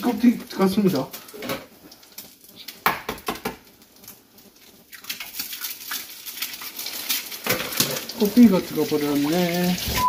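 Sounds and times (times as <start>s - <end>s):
eggs frying in oil: 0.0s - 10.0s.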